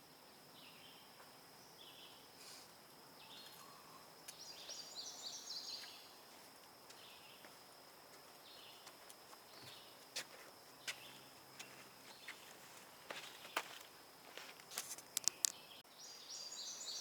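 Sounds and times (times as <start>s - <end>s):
woodland birdsong: 0.3s - 17.0s.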